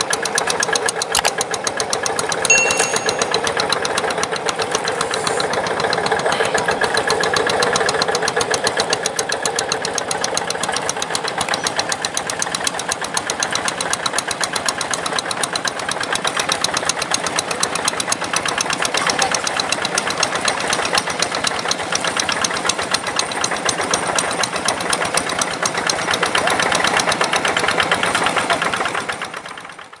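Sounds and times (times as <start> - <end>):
diesel tractor engine knocking: 0.0 - 2.5, 3.3 - 30.0.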